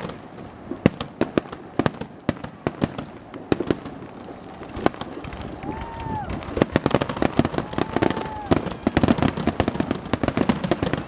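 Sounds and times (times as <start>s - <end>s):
continuous firework crackle: 0.0s - 11.0s
firework bangs and cracks: 0.0s - 11.0s.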